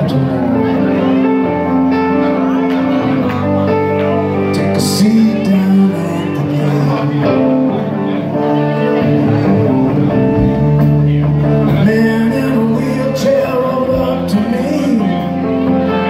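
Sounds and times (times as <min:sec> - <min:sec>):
live band playing: 0:00.0 - 0:16.0
sliding guitar notes: 0:00.0 - 0:16.0.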